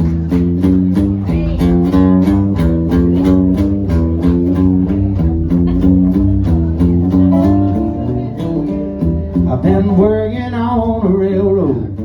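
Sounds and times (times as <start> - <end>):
bass line: 0.0 - 12.0
country guitar picking: 0.0 - 12.0.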